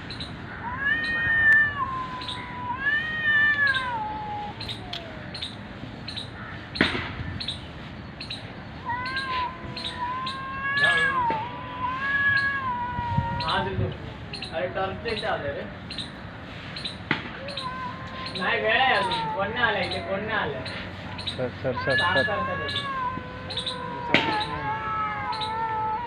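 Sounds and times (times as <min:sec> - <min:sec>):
cats yowling: 0:00.6 - 0:06.4, 0:08.2 - 0:16.2, 0:16.8 - 0:26.0.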